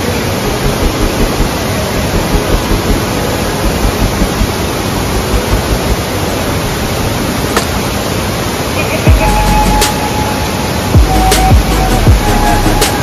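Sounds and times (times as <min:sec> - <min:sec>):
waterfall cascading onto boulders: 0:00.0 - 0:13.0.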